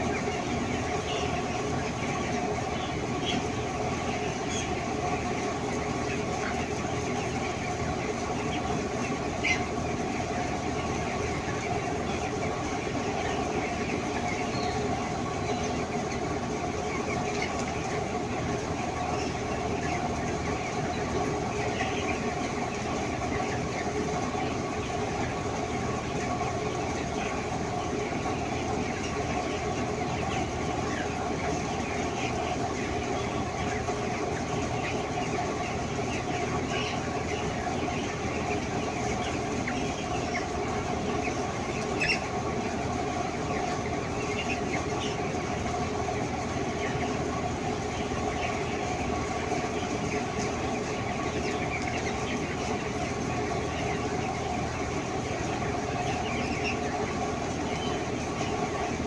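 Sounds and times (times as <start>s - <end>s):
chickens peeping and chirping: 0.0s - 59.0s
steady machine hum: 0.0s - 59.0s.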